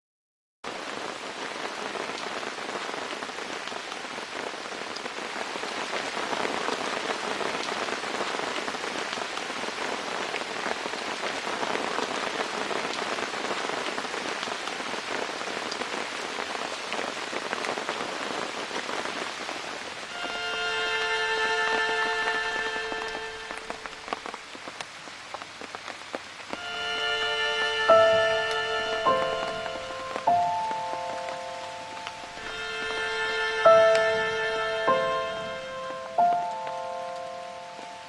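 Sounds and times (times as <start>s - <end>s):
steady rain falling: 0.6s - 38.0s.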